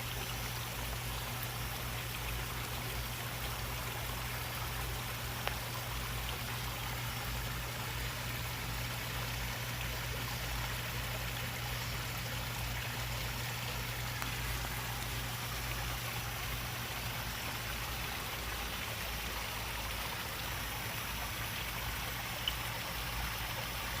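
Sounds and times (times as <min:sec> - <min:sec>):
low steady hum: 0:00.0 - 0:24.0
pond water trickling: 0:00.0 - 0:24.0.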